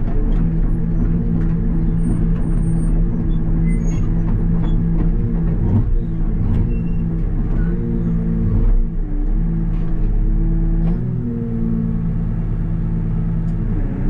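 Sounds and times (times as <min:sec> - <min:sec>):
excavator with rotary cutter drone: 0:00.0 - 0:14.0.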